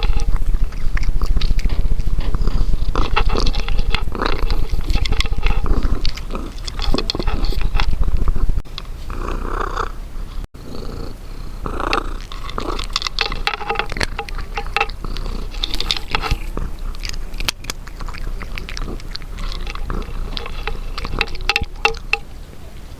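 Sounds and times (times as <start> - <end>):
cat chewing wetly: 0.0 - 9.4, 10.7 - 22.9
cat purring: 0.0 - 22.8.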